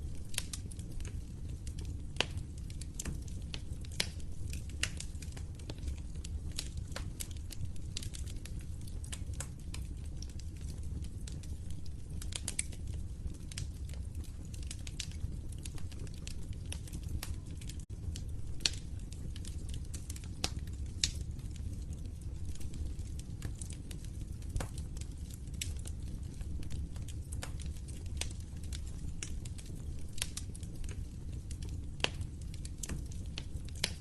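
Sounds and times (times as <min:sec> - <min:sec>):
low rumble of burning: 0:00.0 - 0:34.0
wood fire crackling: 0:00.0 - 0:34.0.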